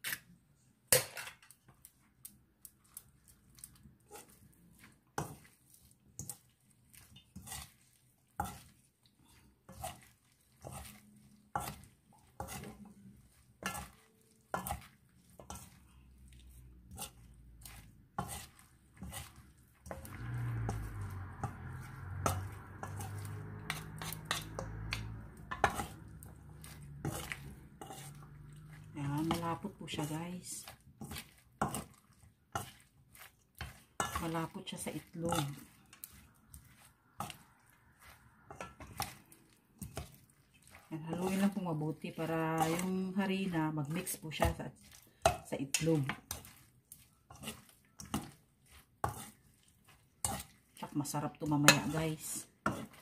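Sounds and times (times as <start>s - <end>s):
utensils scraping metal mixing bowl: 3.0s - 53.0s.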